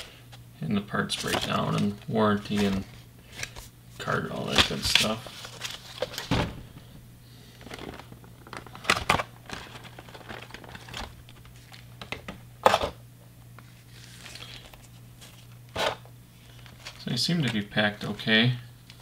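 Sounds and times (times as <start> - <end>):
plastic packaging crinkling: 1.0 - 3.7, 4.3 - 6.3, 7.5 - 12.8, 13.6 - 19.0.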